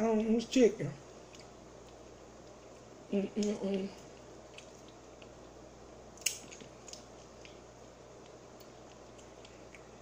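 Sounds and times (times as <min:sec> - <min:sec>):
chewing mouth sounds: 0:01.2 - 0:05.6, 0:06.2 - 0:10.0.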